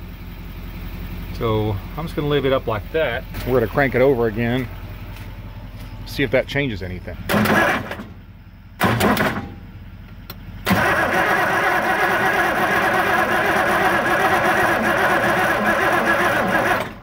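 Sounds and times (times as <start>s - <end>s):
diesel engine cranking: 0.2s - 17.0s.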